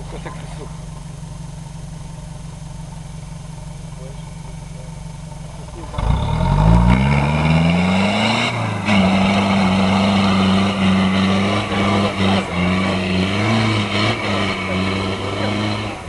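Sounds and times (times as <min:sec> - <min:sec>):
diesel engine pulling under load: 0:00.0 - 0:16.0.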